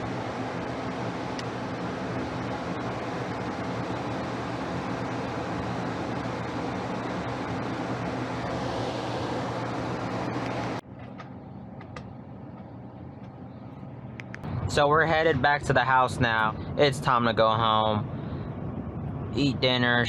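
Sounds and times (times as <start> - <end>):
machine hum with low drone: 0.0 - 20.0.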